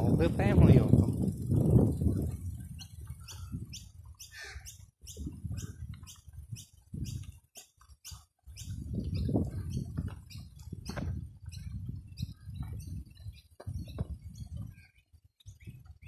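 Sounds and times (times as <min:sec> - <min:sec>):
low rumble of wind: 0:00.0 - 0:16.0
birds chirping: 0:00.2 - 0:16.0.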